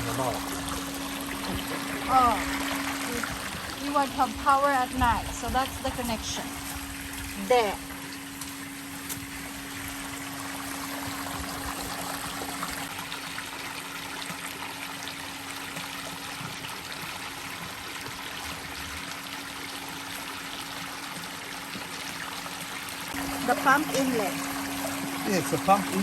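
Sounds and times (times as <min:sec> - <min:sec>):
pump humming: 0:00.0 - 0:26.0
water trickling: 0:00.0 - 0:26.0.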